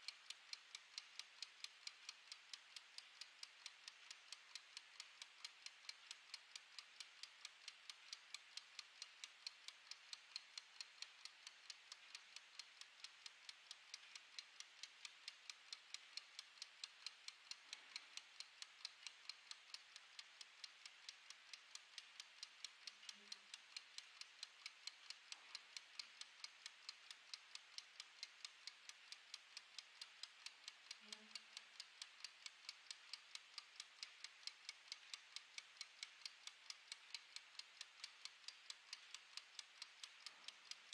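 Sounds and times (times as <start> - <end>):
kitchen timer ticking: 0.0 - 40.9.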